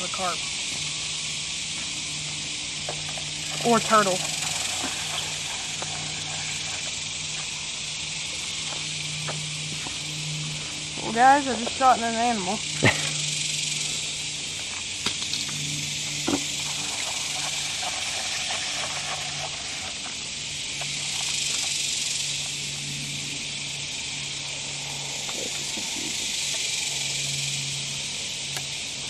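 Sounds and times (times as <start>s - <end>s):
insect chorus hissing: 0.0s - 29.0s.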